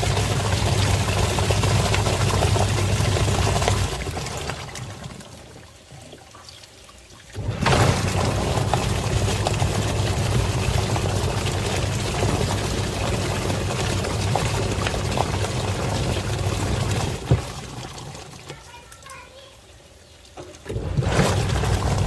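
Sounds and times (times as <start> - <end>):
washing machine motor humming: 0.0 - 5.2, 7.4 - 18.5, 20.7 - 22.0
water churning and sloshing: 0.0 - 22.0.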